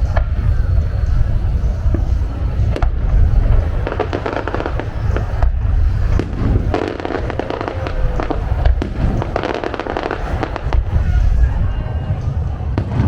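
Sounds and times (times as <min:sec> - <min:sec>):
fireworks shells booming: 0:00.0 - 0:13.0
rapid fireworks crackling: 0:00.0 - 0:13.0.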